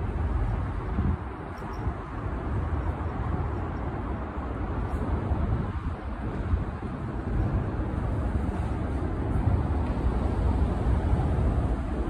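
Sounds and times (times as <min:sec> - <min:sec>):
low buffeting outdoor rumble: 0:00.0 - 0:12.0.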